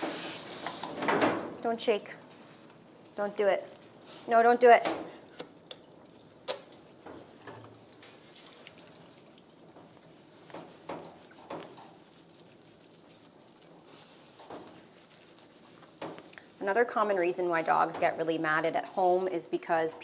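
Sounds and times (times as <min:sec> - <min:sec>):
water dripping: 0:00.6 - 0:18.3.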